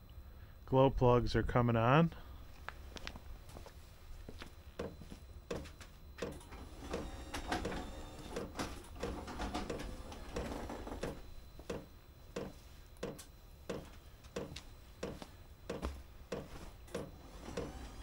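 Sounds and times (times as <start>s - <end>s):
heater humming: 0.0s - 18.0s.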